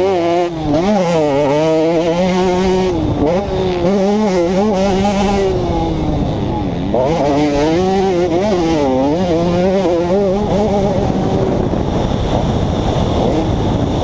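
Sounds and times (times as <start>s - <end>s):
dirt bike engine revving: 0.0s - 14.0s
steady rushing noise: 0.0s - 14.0s.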